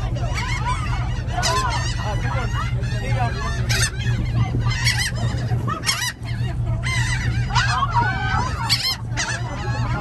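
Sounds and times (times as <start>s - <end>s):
gulls squawking: 0.0s - 10.0s
steady low rumble: 0.0s - 10.0s.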